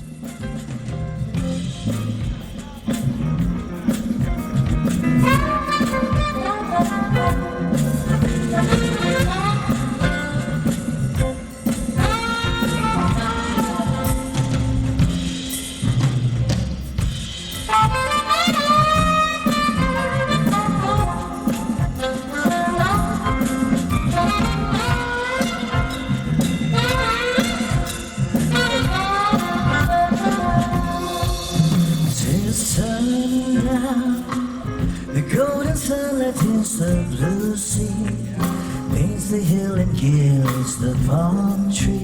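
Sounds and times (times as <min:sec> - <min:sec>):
drums keeping steady beat: 0:00.0 - 0:42.0
jazz band with brass: 0:00.0 - 0:42.0.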